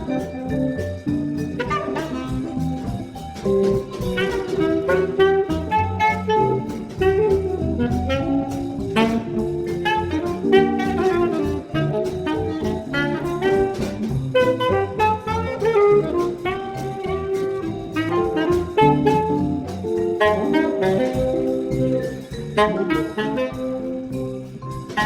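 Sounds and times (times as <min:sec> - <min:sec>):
bass: 0:00.0 - 0:25.0
saxophone melody: 0:00.0 - 0:25.0.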